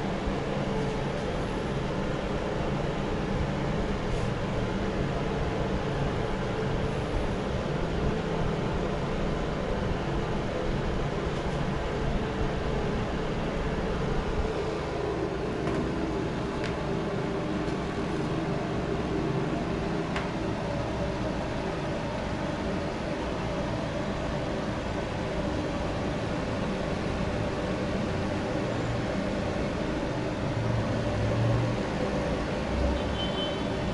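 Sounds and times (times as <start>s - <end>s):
fan heater whooshing: 0.0s - 33.9s.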